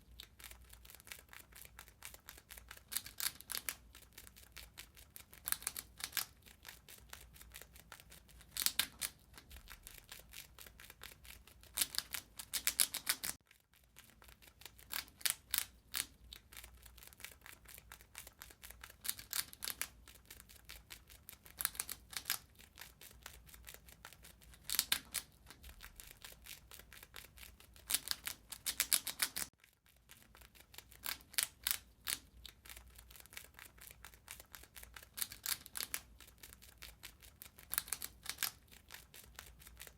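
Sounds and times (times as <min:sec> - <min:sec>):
rat gnawing and chewing: 0:00.0 - 0:39.9.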